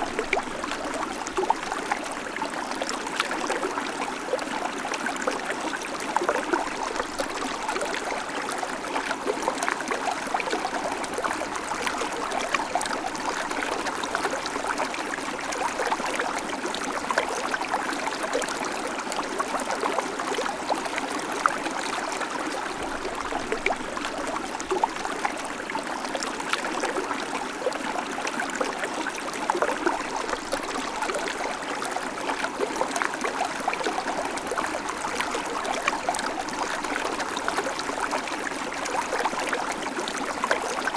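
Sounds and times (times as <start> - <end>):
creek babbling over stones: 0.0 - 40.9.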